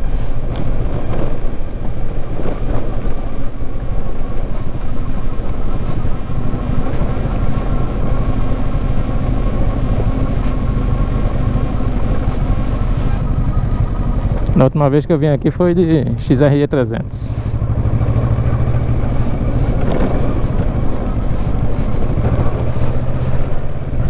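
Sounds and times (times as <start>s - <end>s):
motorcycle engine running: 0.0s - 16.4s, 17.1s - 24.0s.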